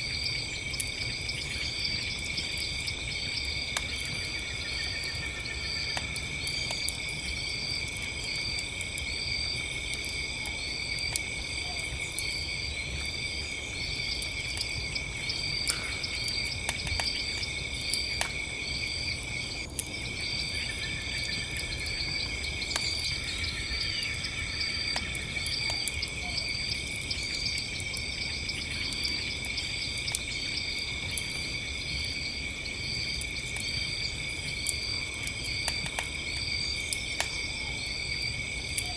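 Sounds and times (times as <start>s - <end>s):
crickets chirping: 0.0s - 38.9s
high insect trill: 0.0s - 38.9s
campfire crackling and popping: 0.1s - 38.9s.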